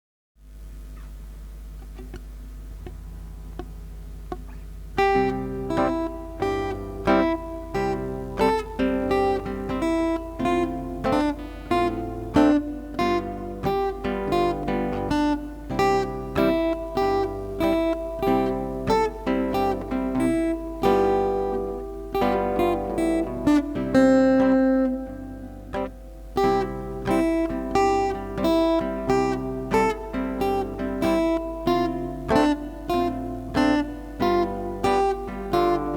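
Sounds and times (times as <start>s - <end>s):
low steady hum: 0.4s - 35.9s
acoustic guitar melody: 0.6s - 35.9s.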